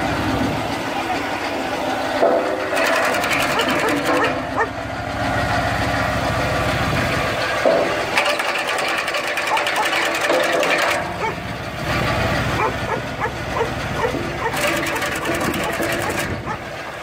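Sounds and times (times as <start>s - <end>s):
tractor driving branch cutter: 0.0s - 17.0s.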